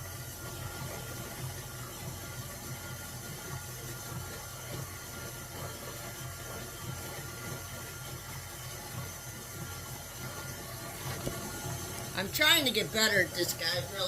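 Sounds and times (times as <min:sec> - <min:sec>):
stand mixer motor humming: 0:00.0 - 0:14.0.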